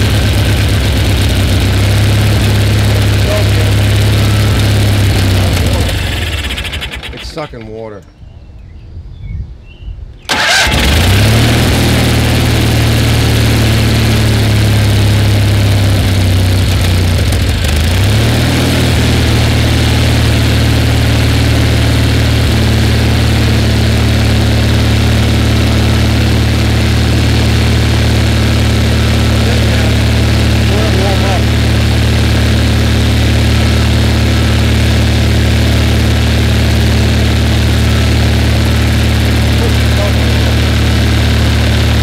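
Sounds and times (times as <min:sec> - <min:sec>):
twin-cylinder engine running: 0:00.0 - 0:07.8, 0:10.3 - 0:42.0.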